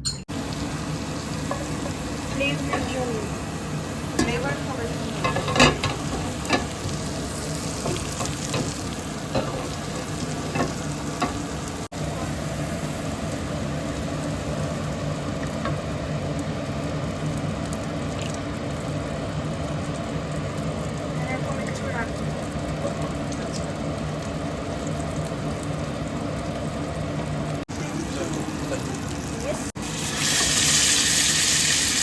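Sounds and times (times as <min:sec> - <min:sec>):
food sizzling in a frying pan: 0:00.3 - 0:32.0.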